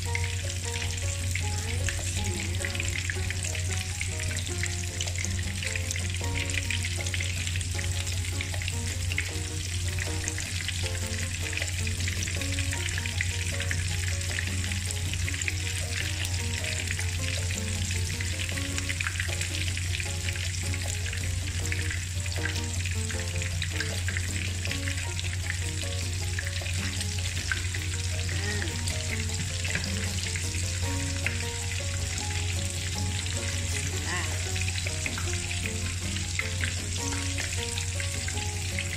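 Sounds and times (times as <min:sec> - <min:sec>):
chicken sizzling in hot oil: 0:00.0 - 0:38.9.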